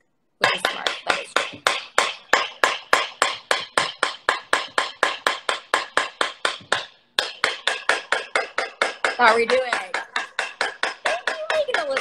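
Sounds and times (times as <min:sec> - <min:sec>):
whisk striking metal bowl: 0:00.4 - 0:12.0.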